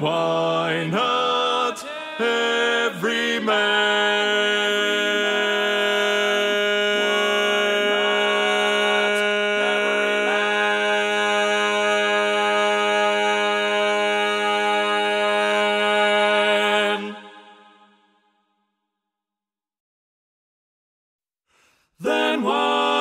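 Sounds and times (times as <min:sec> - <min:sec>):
male quartet singing a cappella: 0:00.0 - 0:17.6, 0:22.0 - 0:23.0.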